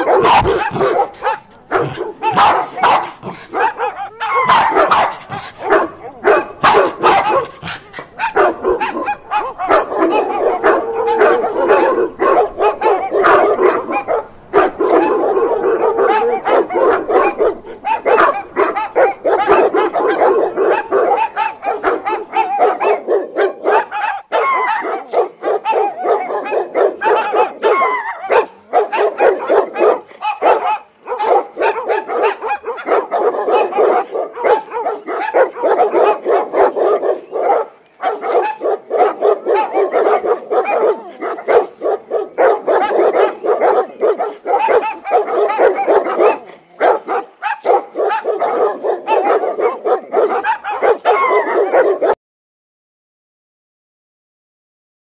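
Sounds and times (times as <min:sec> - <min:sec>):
dogs barking angrily: 0:00.0 - 0:52.2.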